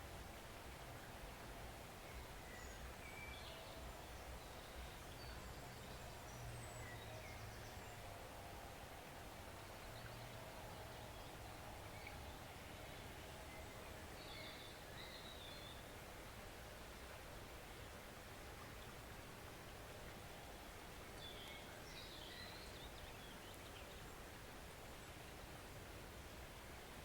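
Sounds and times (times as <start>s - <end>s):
small stream flowing: 0.0s - 27.0s.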